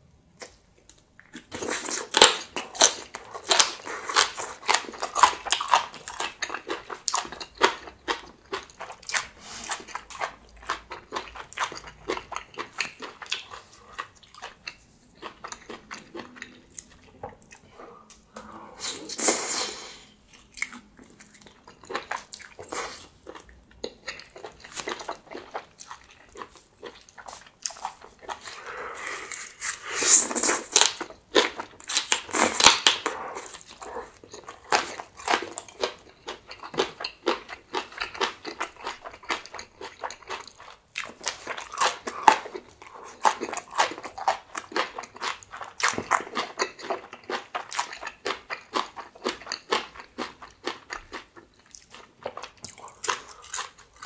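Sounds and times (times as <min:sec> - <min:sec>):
person biting and chewing food: 0:01.2 - 0:19.5, 0:20.2 - 0:54.0.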